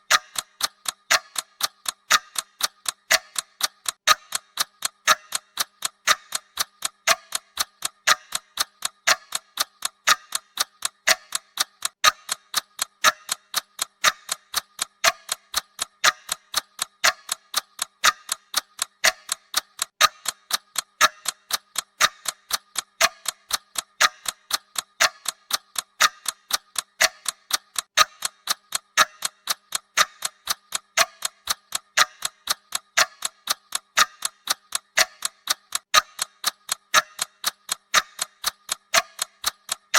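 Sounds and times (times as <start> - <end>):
countdown timer ticking: 0.0 - 39.9.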